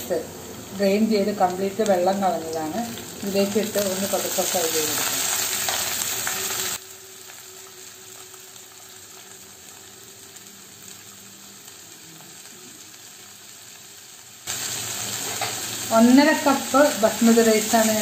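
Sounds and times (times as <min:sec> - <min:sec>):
rice sizzling in frying pan: 0:00.0 - 0:18.0.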